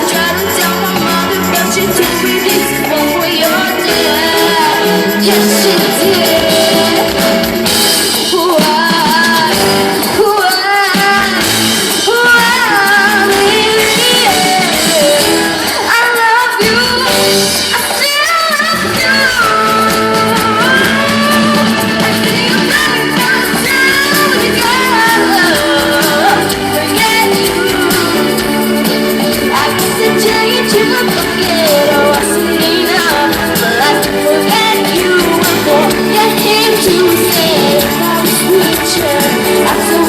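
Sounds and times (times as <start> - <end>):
live pop band playing: 0.0 - 40.0
person singing lead: 0.0 - 40.0.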